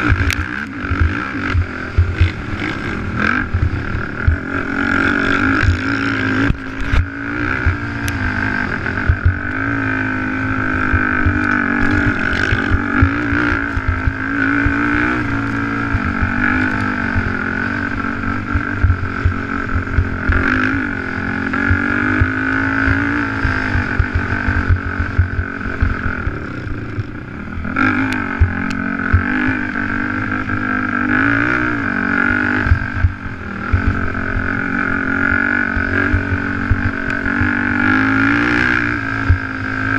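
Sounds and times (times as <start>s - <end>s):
quad engine revving high: 0.0s - 39.9s.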